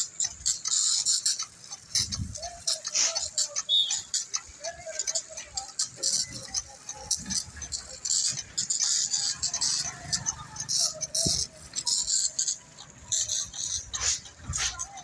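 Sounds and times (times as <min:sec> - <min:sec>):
spray lance hissing: 0:00.0 - 0:04.3, 0:05.1 - 0:15.0.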